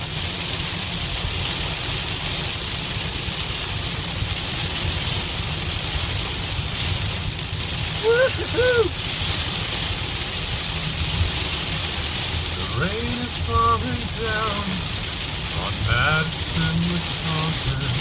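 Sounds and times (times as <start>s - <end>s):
heavy rain on a car: 0.0s - 18.0s
low road rumble: 0.0s - 18.0s.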